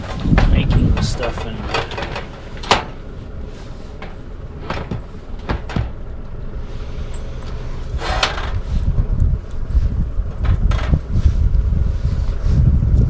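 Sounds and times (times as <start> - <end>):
gear knocking and clattering: 0.0 - 13.0
wind rumble on microphone: 0.0 - 13.0.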